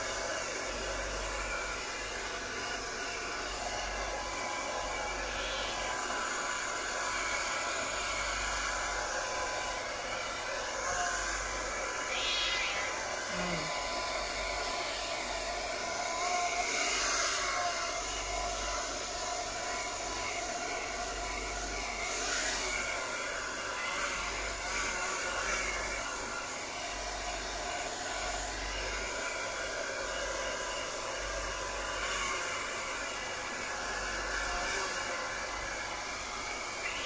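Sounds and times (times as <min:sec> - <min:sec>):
hair dryer running: 0:00.0 - 0:37.0.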